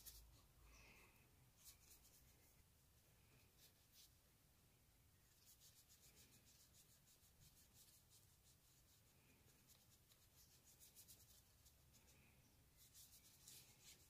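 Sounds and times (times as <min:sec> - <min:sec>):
paintbrush strokes on paper: 0:00.0 - 0:00.6, 0:01.5 - 0:04.3, 0:05.2 - 0:14.0.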